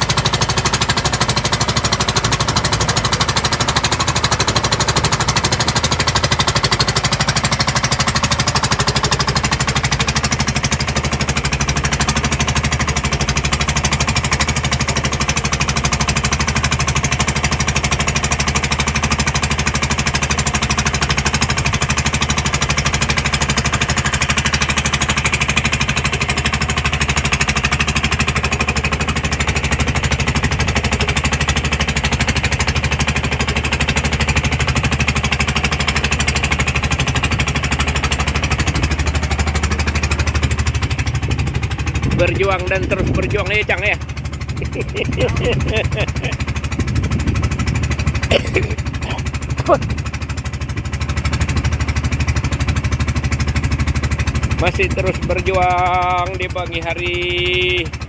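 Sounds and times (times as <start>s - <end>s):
boat diesel engine running: 0.0s - 58.0s.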